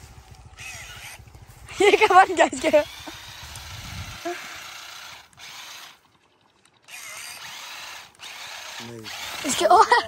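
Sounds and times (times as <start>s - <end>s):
small electric motors whirring: 0.0s - 10.0s.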